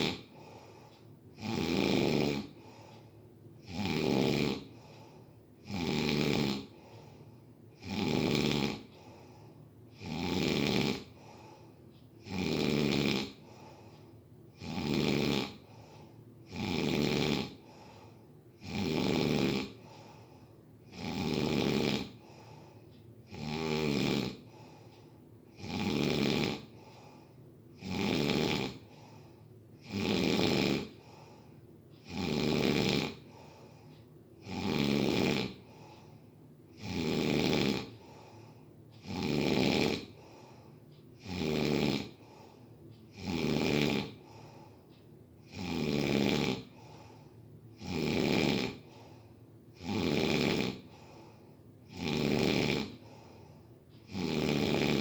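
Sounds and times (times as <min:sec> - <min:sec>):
person snoring: 0:00.0 - 0:03.0, 0:03.6 - 0:13.9, 0:14.5 - 0:24.9, 0:25.5 - 0:44.8, 0:45.4 - 0:55.0
quiet breathing: 0:00.0 - 0:55.0.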